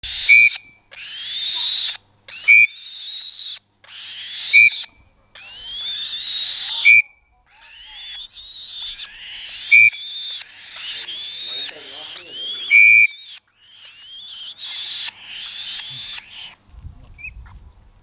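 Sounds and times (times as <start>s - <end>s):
chick wheezy begging calls: 0.0s - 17.4s.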